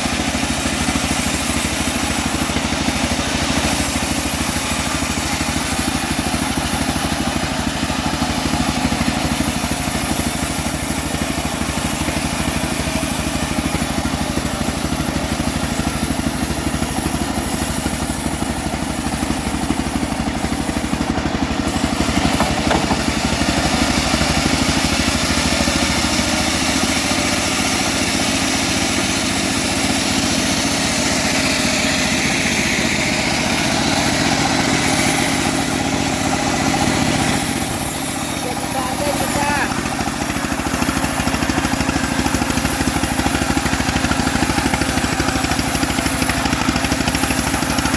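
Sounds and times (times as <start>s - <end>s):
sawmill engine running steadily: 0.0s - 47.9s.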